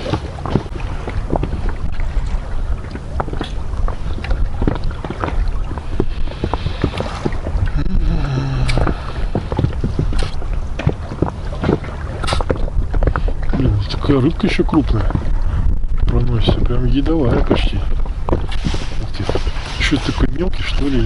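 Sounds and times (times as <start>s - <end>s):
waves slapping against boat hull: 0.0s - 21.0s
wind rumble on microphone: 0.0s - 21.0s.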